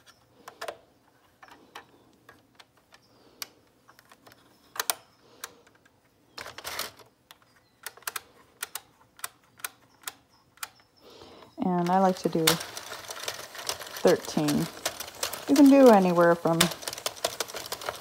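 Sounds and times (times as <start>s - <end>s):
plastic clicks of knitting machine: 0.0s - 18.0s.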